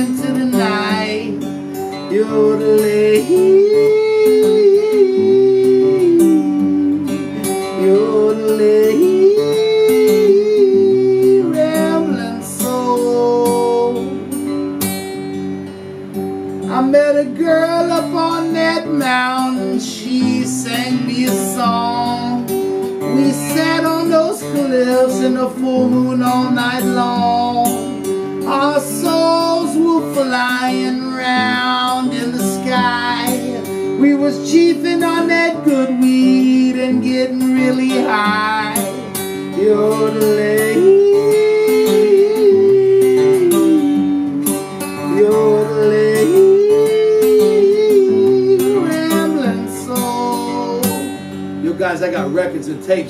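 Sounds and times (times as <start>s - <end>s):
man singing wordless melody: 0.0s - 14.4s, 16.6s - 53.0s
acoustic guitar strummed and picked: 0.0s - 53.0s.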